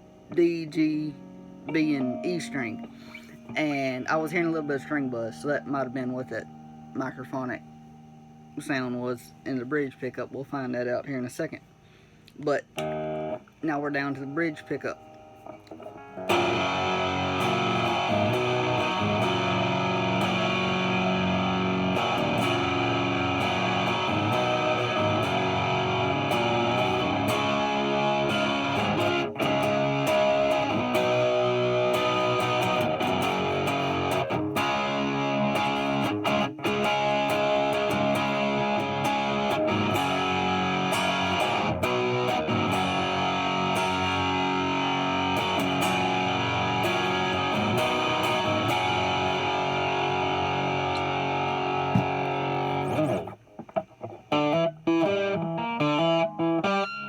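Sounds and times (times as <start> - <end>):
distorted electric guitar: 0.0 - 11.6, 12.3 - 57.0.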